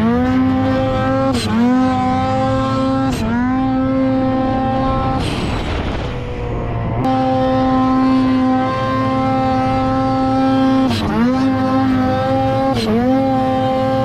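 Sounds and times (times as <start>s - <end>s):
snowmobile engine at high revs: 0.0s - 14.0s.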